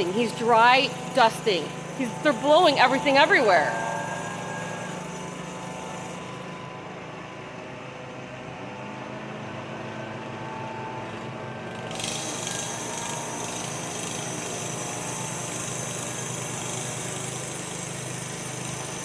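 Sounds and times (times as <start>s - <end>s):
leaf blower engine running: 0.0s - 7.3s, 8.2s - 19.0s.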